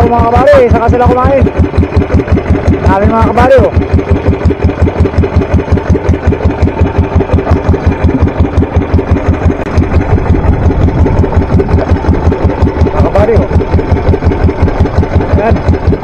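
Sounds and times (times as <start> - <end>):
small boat engine running: 0.0 - 16.0.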